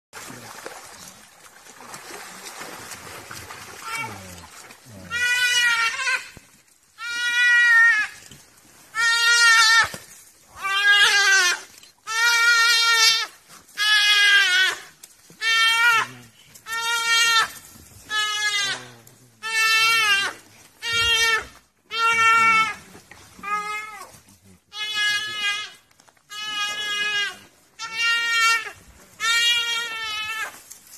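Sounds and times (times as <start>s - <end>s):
animal bleating in distress: 3.8s - 6.4s, 7.0s - 8.2s, 8.9s - 10.0s, 10.6s - 30.6s.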